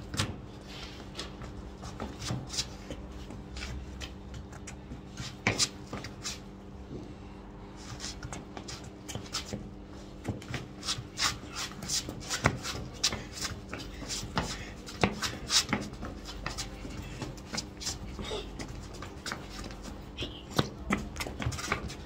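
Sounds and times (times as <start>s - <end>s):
trainers scuffing on hard ground: 0.0s - 7.1s, 7.7s - 22.0s.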